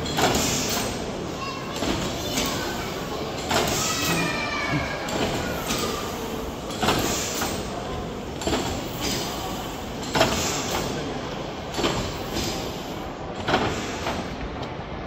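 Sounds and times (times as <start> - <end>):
machinery hiss: 0.0 - 14.6.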